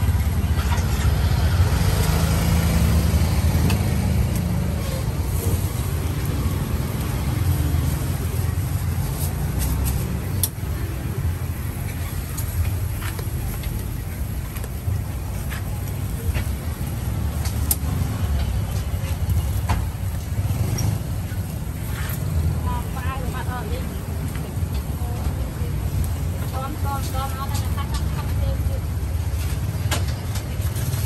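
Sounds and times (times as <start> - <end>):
vehicle engines rumbling: 0.0 - 31.0.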